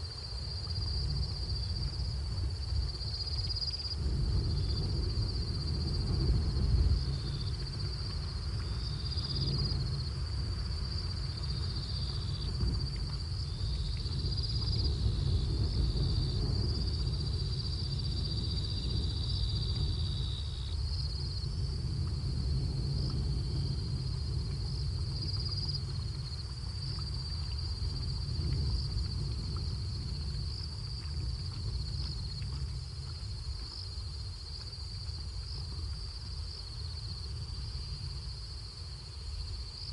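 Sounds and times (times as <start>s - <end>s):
low steady rumble: 0.0s - 39.9s.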